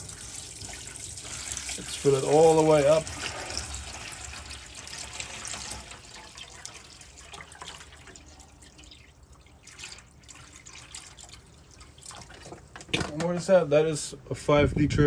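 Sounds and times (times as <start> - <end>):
water pouring into sink: 0.0 - 12.7.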